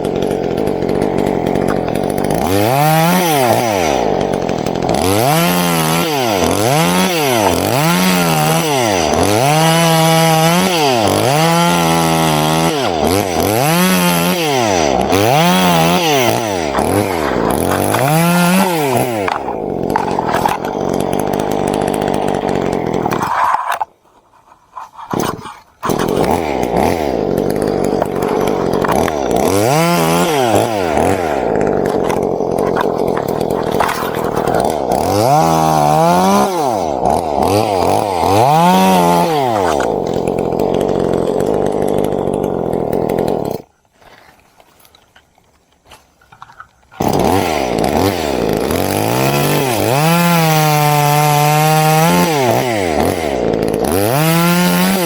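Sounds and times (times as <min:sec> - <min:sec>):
chainsaw revving and idling: 0:00.0 - 0:44.2, 0:46.4 - 0:55.0.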